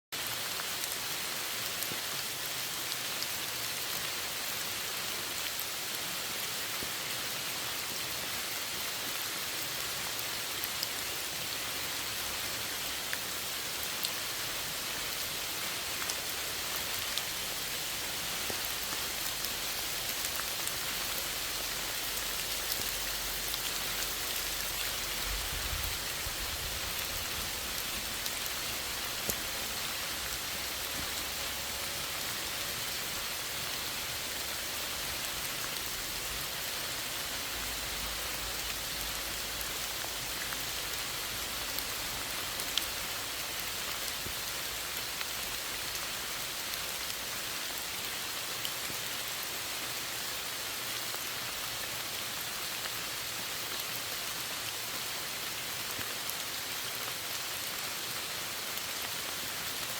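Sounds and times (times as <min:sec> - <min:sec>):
steady rain hiss: 0:00.2 - 0:59.9.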